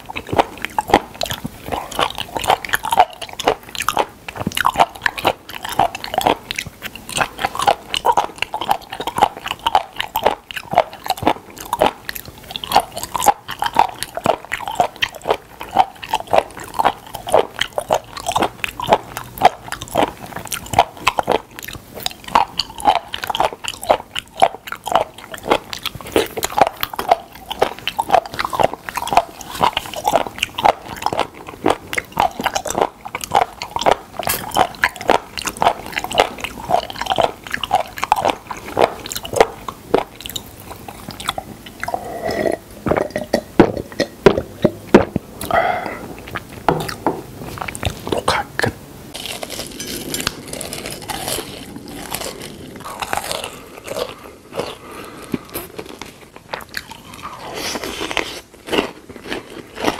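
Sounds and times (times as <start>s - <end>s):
close chewing and biting: 0.0s - 59.9s.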